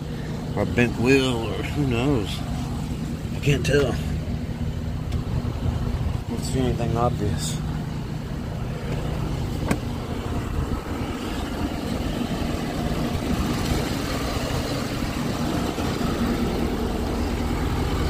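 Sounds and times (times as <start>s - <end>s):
pickup engine idling: 0.0s - 18.0s
road noise rushing: 0.0s - 18.0s.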